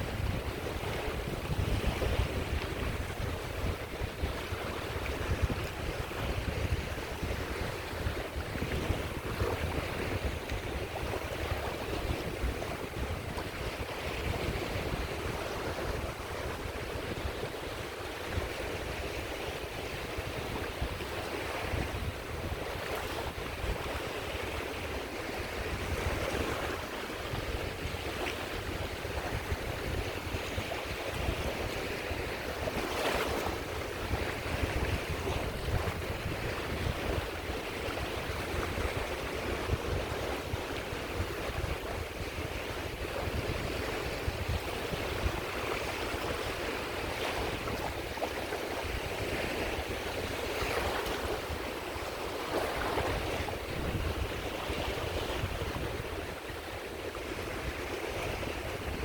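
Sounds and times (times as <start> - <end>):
small waves breaking on shore: 0.0 - 59.0
wind rumble on microphone: 0.0 - 59.0.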